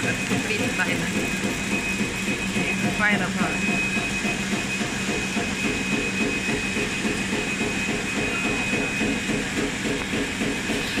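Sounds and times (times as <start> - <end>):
thin high machine whine: 0.0 - 11.0.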